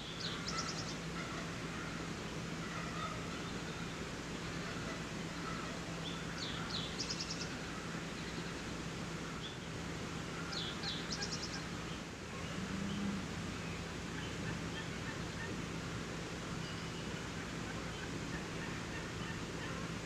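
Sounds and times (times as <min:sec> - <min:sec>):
background hiss: 0:00.0 - 0:20.0
faint low hum: 0:00.0 - 0:20.0
songbird singing: 0:00.0 - 0:20.0.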